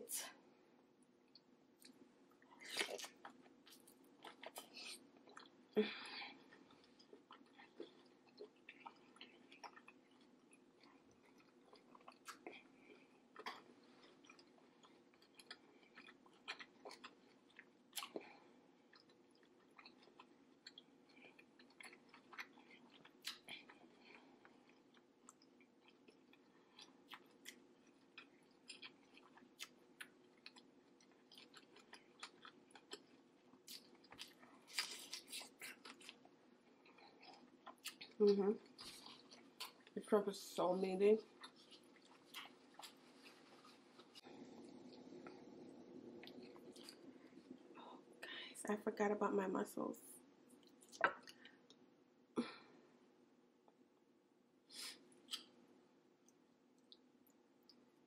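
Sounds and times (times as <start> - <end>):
chewing and wet mouth sounds: 1.0 - 48.4, 50.4 - 52.6, 54.7 - 55.6, 56.2 - 58.0.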